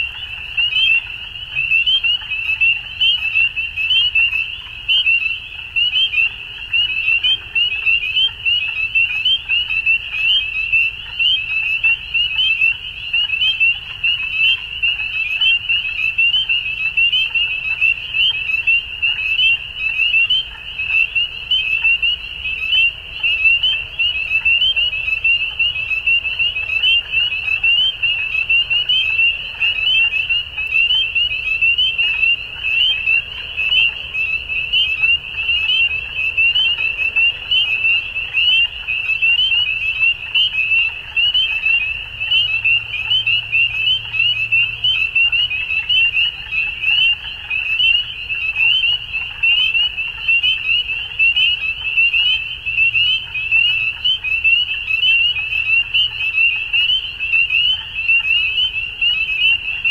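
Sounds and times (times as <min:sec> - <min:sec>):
frogs chorus peeping: 0:00.0 - 0:59.9.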